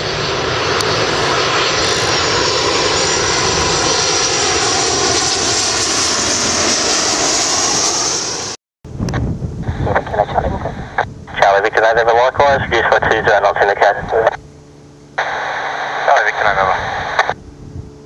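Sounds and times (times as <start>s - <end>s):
jet airliner engines passing: 0.0s - 18.0s.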